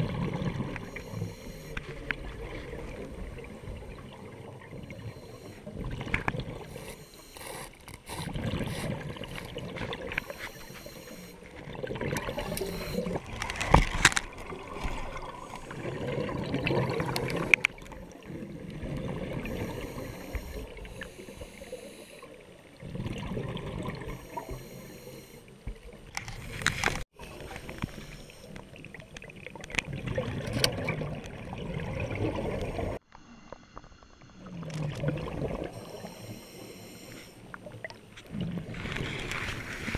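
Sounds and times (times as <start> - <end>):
sea water: 0.0 - 39.9.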